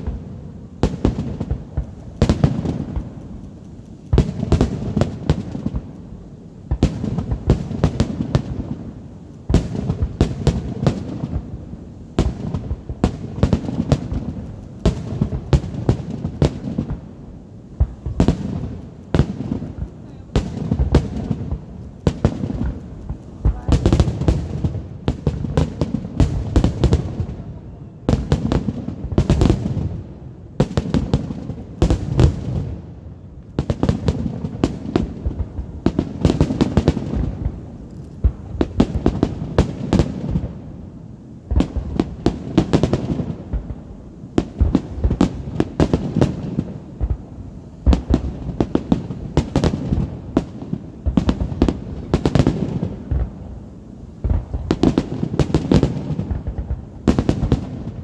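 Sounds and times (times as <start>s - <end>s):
deep fireworks booms: 0.0s - 58.0s
fireworks bangs and crackles: 0.0s - 58.0s.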